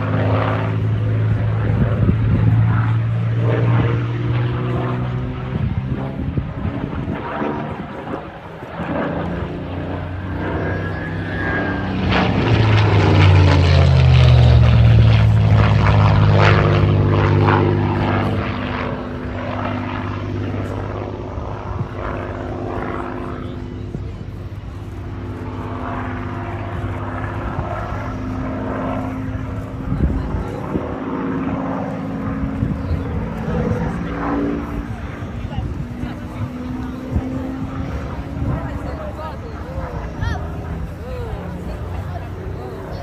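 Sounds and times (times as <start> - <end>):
propeller plane flying past: 0.0 - 43.0.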